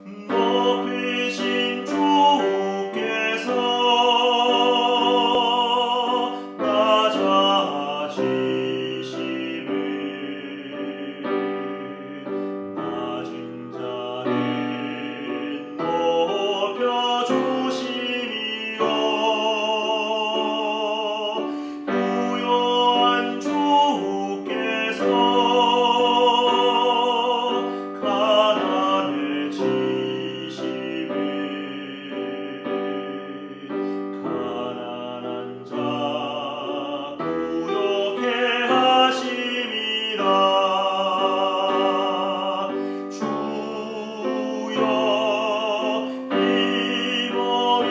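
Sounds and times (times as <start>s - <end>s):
person singing a hymn: 0.0s - 47.9s
piano accompaniment: 0.0s - 47.9s.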